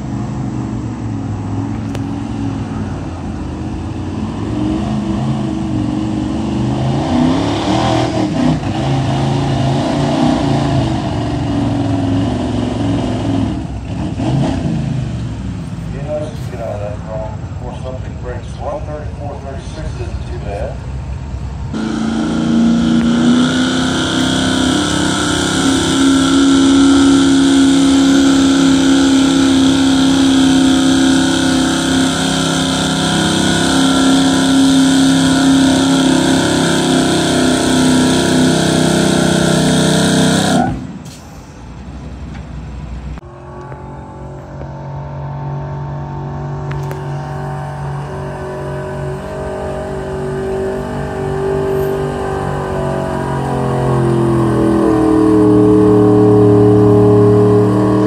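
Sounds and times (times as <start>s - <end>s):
pickup truck engine at high revs: 0.0s - 18.0s, 21.7s - 41.2s, 43.1s - 58.0s.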